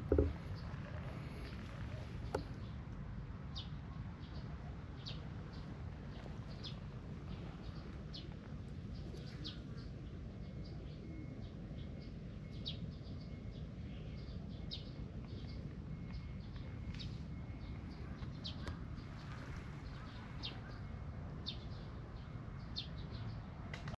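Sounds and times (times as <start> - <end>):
small birds chirping: 3.6 - 23.5.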